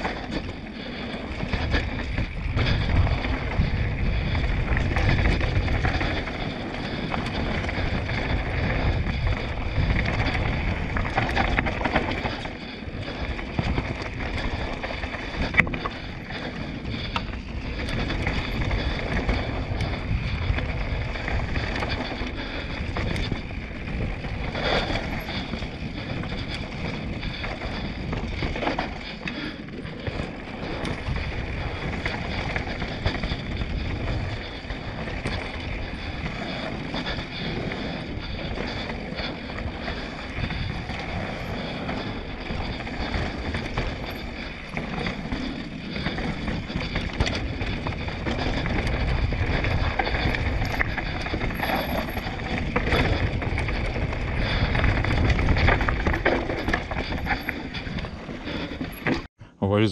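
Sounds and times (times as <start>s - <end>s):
bike clattering over bumps: 0.0s - 59.3s
wind buffeting microphone: 0.0s - 59.4s
bike tyres rumbling on dirt: 0.0s - 59.5s.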